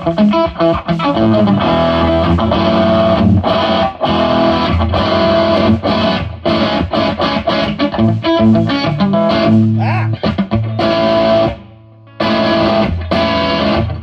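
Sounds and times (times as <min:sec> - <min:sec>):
electric guitar chords ringing: 0:00.0 - 0:14.0.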